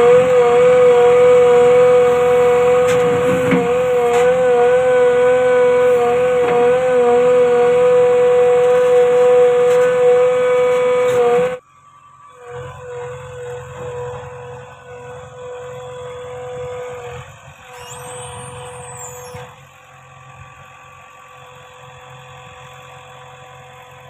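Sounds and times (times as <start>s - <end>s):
hydraulic whine of backhoe: 0.0s - 24.0s.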